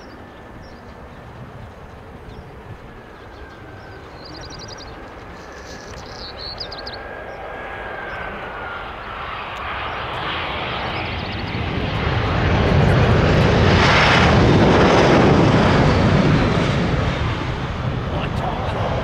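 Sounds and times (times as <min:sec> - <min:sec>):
jet engines whining: 0:00.0 - 0:19.0.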